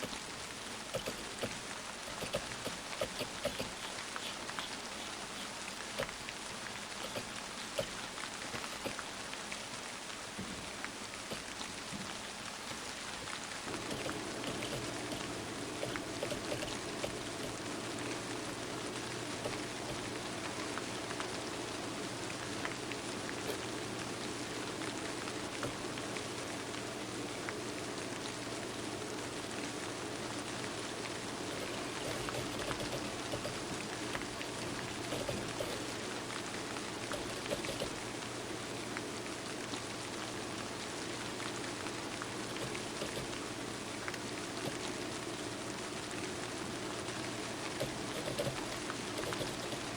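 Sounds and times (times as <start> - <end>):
rain patter: 0.0 - 49.9.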